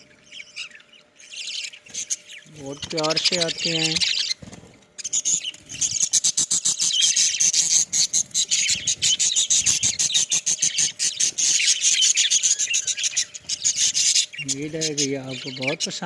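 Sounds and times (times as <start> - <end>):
budgerigars chattering: 0.0 - 16.0.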